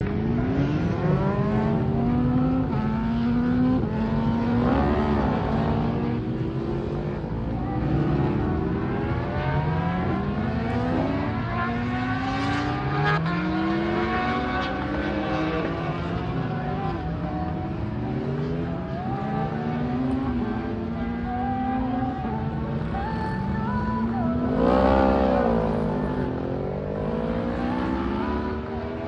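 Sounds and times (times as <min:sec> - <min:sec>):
superbike engines accelerating: 0:00.0 - 0:29.0.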